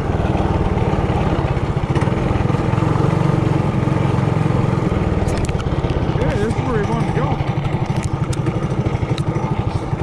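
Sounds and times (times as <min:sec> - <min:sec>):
minibike engine chugging: 0:00.0 - 0:10.0.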